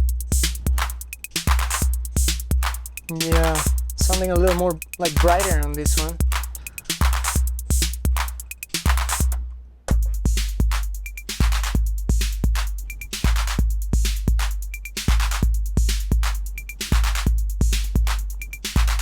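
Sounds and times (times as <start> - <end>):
deep bass drum: 0.0 - 19.0
hi-hat strikes: 0.0 - 19.0.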